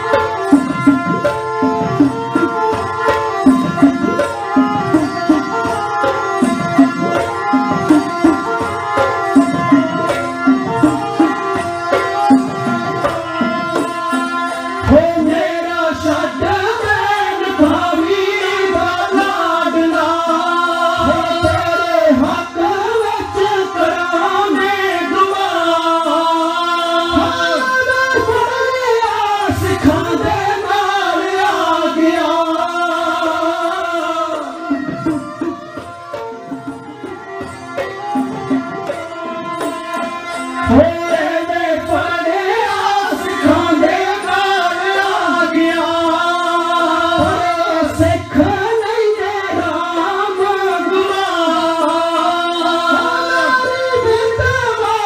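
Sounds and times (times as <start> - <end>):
people singing: 0.0 - 55.0
sarangi playing: 0.0 - 55.0.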